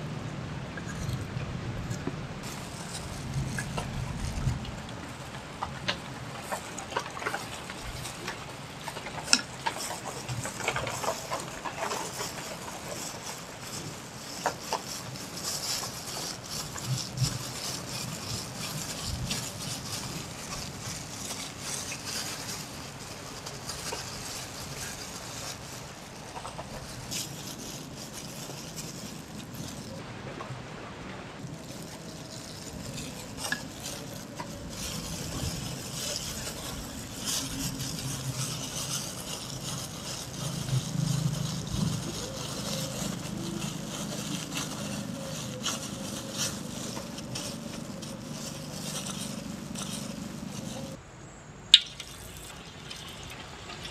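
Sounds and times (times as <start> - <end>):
plastic gloves crinkling: 2.4 - 30.1, 31.4 - 51.0.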